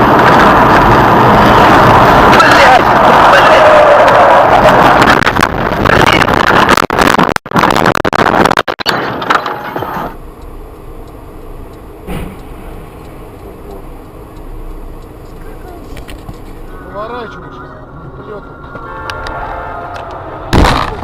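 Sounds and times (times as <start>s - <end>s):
loud car noise: 0.0s - 6.8s, 8.9s - 21.0s.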